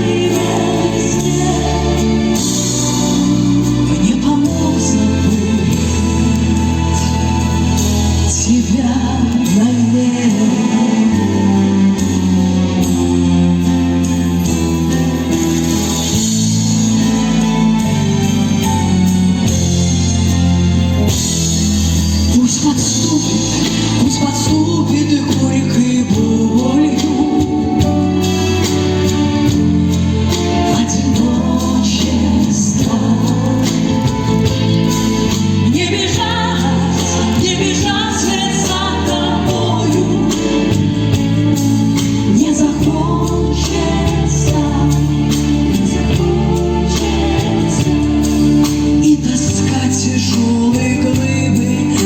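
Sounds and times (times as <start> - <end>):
pop song from full band: 0.0 - 52.0.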